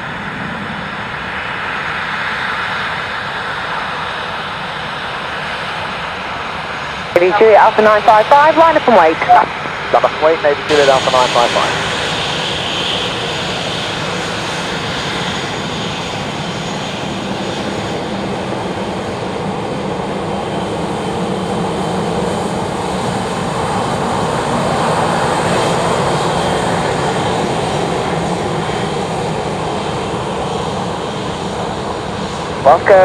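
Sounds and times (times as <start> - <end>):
aircraft engine running: 0.0 - 33.0.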